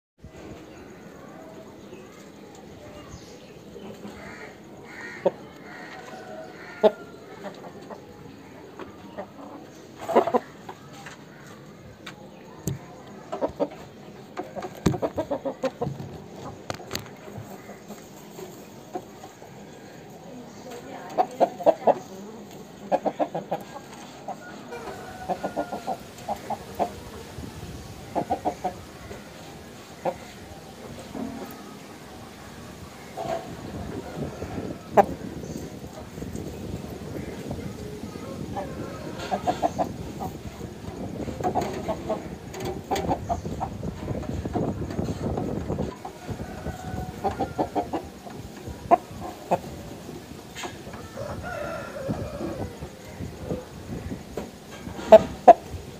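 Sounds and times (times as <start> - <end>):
chicken clucking: 0.5 - 55.9.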